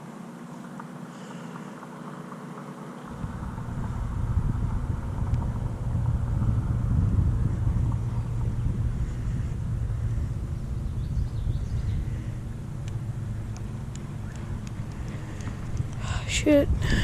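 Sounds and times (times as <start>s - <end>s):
wind buffeting microphone: 3.1s - 17.0s.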